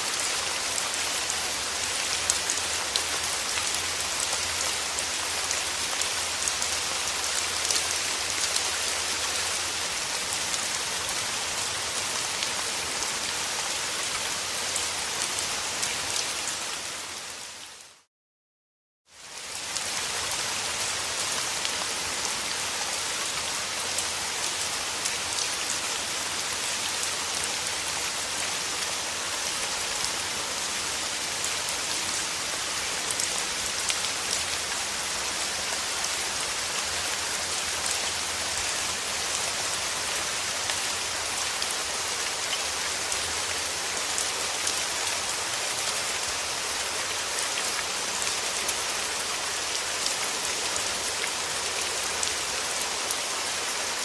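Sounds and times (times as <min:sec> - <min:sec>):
steady rain falling: 0:00.0 - 0:18.1, 0:19.1 - 0:54.0.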